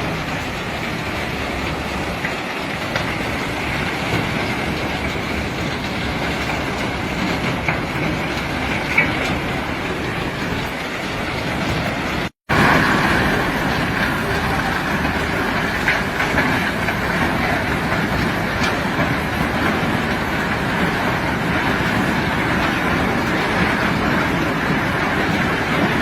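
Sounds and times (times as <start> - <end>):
rock unloaded by heavy machinery: 0.0 - 26.0.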